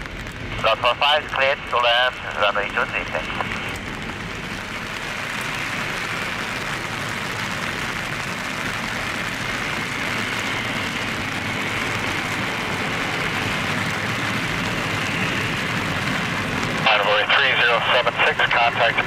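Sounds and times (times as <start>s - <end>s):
heavy rain: 0.0s - 19.0s
jet engines: 0.0s - 19.0s.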